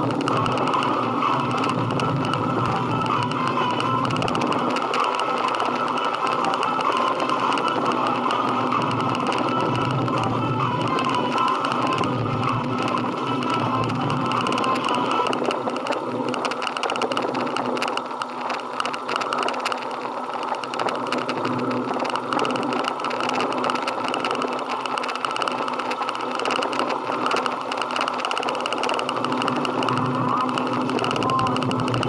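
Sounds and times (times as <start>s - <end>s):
motorcycle engine rattling: 0.0s - 32.0s.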